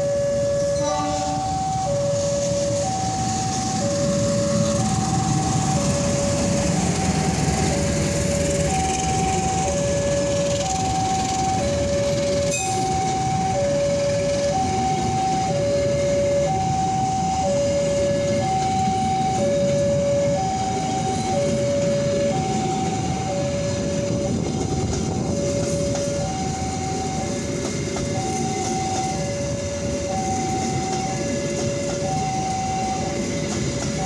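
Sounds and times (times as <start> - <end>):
train rumbling on rails: 0.0 - 34.0
two-tone crossing alarm: 0.0 - 34.0.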